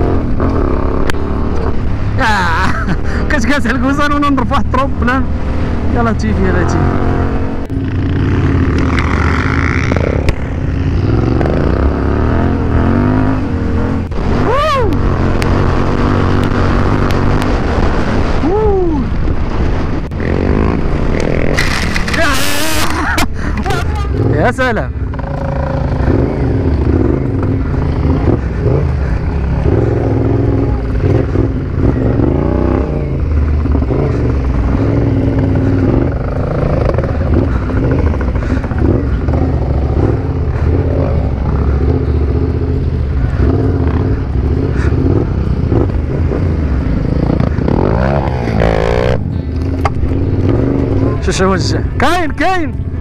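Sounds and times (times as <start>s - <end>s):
motorcycle engine revving: 0.0s - 53.0s
wind and terrain rumble: 0.0s - 53.0s.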